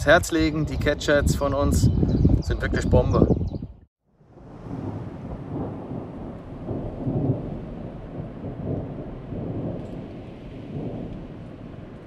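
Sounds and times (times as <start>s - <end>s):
rolling thunder: 0.6s - 12.0s.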